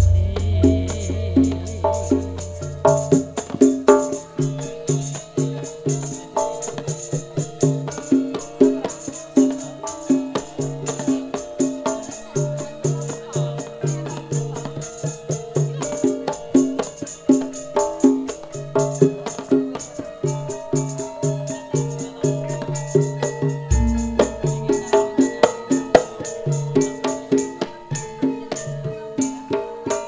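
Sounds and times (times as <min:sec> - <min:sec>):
gamelan ensemble playing: 0:00.0 - 0:14.6, 0:15.3 - 0:30.0.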